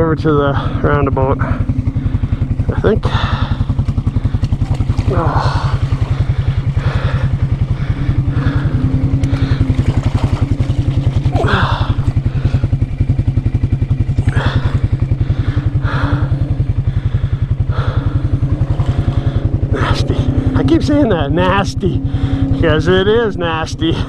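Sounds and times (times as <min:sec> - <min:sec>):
atv engine idling: 0:00.0 - 0:24.0.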